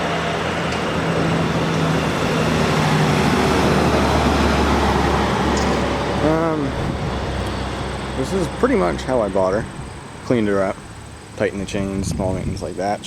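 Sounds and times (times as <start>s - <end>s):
truck driving past: 0.0s - 11.6s.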